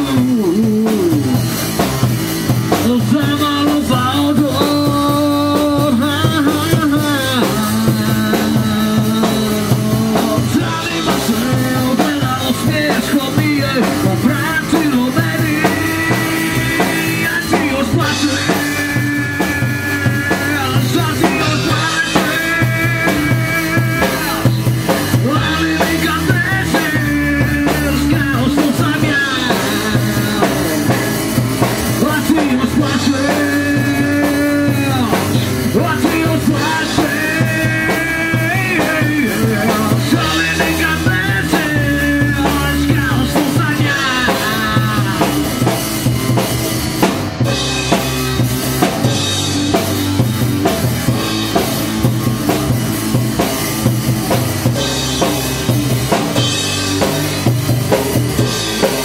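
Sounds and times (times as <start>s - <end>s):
drum kit with cymbals: 0.0s - 59.0s
electric guitars: 0.0s - 59.0s.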